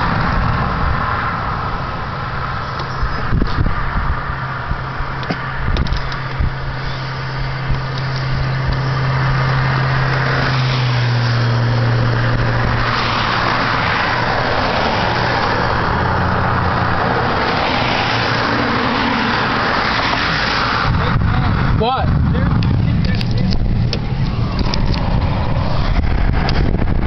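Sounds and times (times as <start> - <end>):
low engine hum: 0.0 - 27.0
road and wind noise: 0.0 - 27.0.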